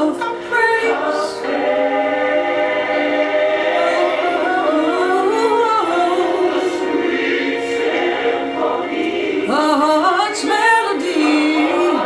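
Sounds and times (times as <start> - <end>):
choir singing a held chord: 0.2 - 12.0.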